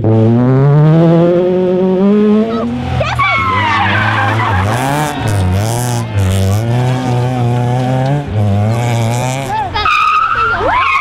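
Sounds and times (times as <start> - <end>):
rally car engines revving: 0.0 - 11.0.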